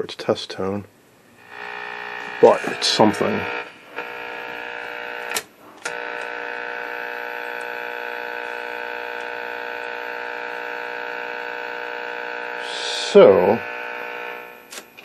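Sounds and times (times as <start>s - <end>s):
buzzing test tone from speaker: 1.3s - 15.0s.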